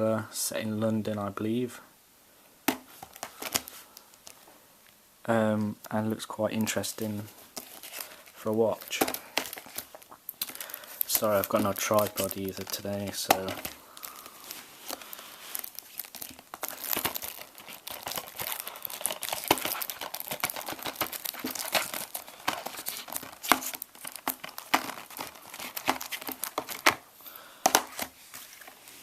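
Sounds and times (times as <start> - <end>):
plastic shrink-wrap crinkling: 2.8 - 4.5, 6.6 - 29.0.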